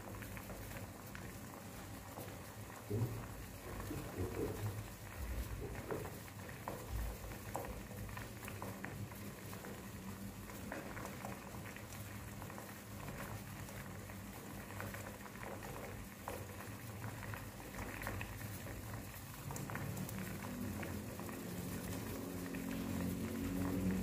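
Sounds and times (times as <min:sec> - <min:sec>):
liquid boiling with small pops: 0:00.0 - 0:24.0.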